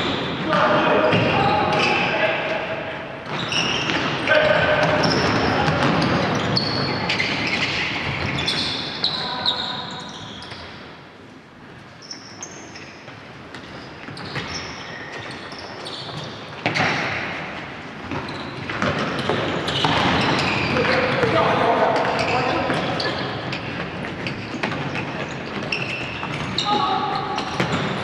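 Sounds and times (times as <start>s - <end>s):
sneakers squeaking on wooden floor: 0.0s - 11.0s, 12.0s - 28.0s.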